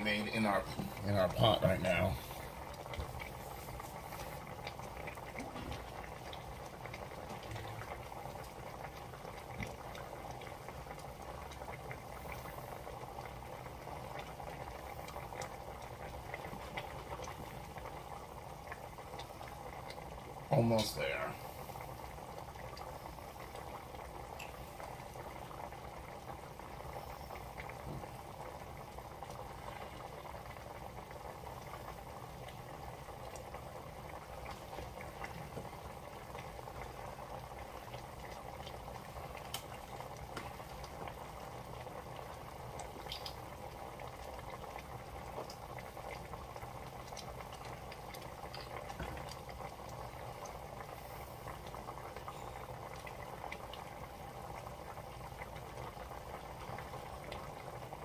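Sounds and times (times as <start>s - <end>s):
sauce boiling in a pan: 0.0s - 58.0s.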